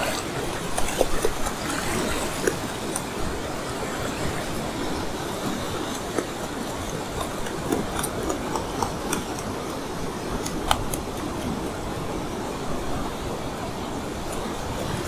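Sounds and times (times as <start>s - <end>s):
stingray slapping water: 0.0s - 15.0s
surf washing over sand: 0.0s - 15.0s.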